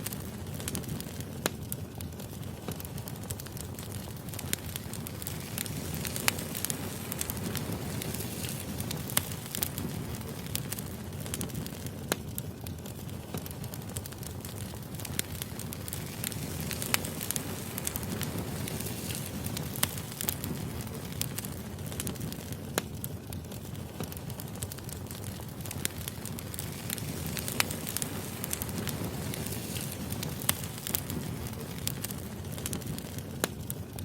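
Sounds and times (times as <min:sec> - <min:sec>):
firewood burning and crackling: 0:00.0 - 0:34.0.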